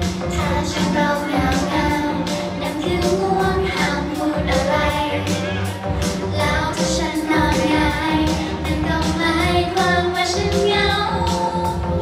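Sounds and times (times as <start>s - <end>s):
female group singing pop song: 0.0s - 12.0s
pop backing track with steady beat: 0.0s - 12.0s.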